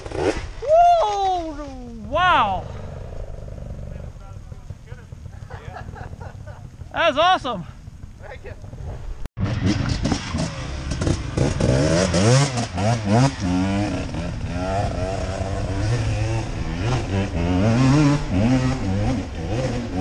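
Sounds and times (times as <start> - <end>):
dirt bike engine revving: 2.0 - 20.0.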